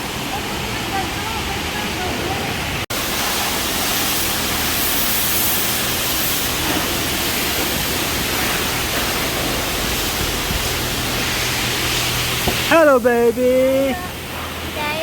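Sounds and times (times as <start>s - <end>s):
car wash machinery rushing: 0.0s - 15.0s.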